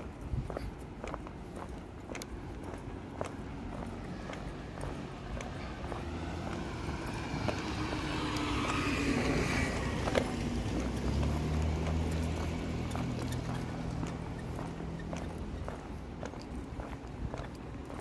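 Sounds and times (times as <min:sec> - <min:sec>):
low engine hum: 0:00.0 - 0:18.0
vehicle passing close by: 0:03.1 - 0:17.6.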